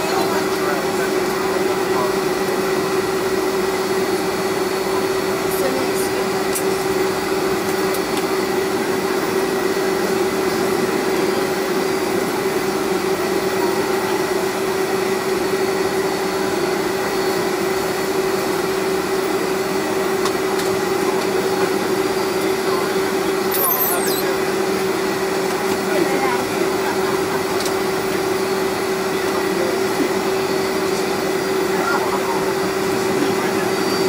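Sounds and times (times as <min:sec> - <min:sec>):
jet engines humming in cabin: 0:00.0 - 0:34.0.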